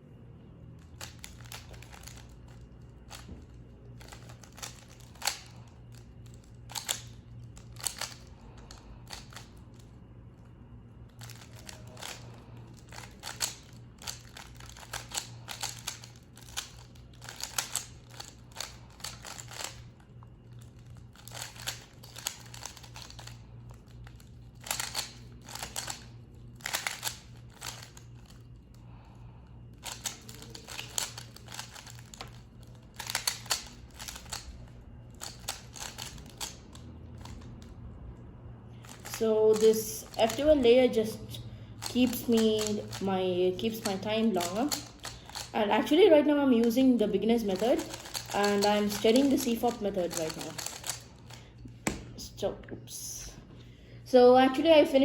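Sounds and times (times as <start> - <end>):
steady low hum: 0.0 - 55.0
puzzle cube plastic clicks: 0.8 - 9.9, 11.1 - 28.4, 29.8 - 37.7, 38.8 - 40.6, 41.8 - 46.0, 46.6 - 51.4.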